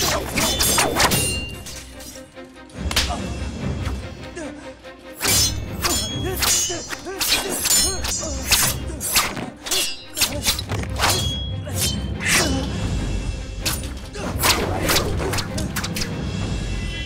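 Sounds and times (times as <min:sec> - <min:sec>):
sharp blows and metallic clangs: 0:00.0 - 0:03.4, 0:05.2 - 0:12.7, 0:13.5 - 0:16.2
film music score: 0:00.0 - 0:17.0.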